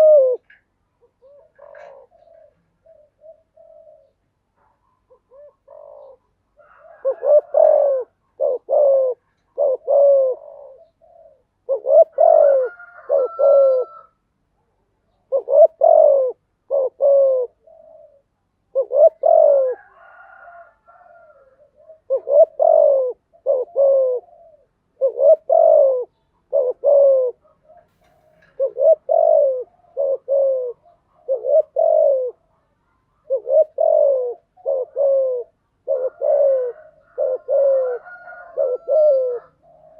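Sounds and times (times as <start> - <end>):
dove cooing: 0.0 - 14.2, 15.1 - 39.9.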